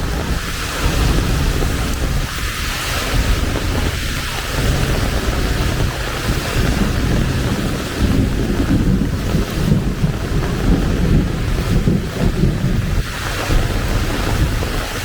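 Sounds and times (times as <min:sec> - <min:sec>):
heavy rain falling: 0:00.0 - 0:15.0
wind buffeting microphone: 0:00.0 - 0:15.0.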